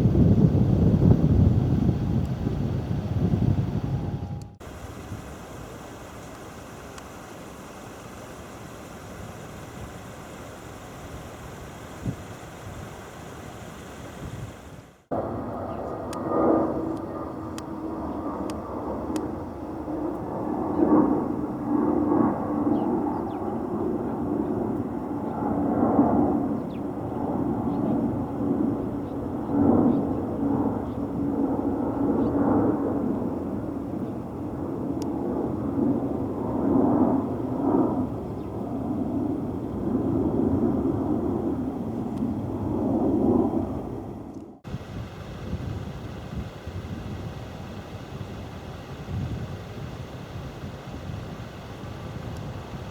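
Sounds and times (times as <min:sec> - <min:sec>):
jet airliner engines droning: 0:00.0 - 0:52.9.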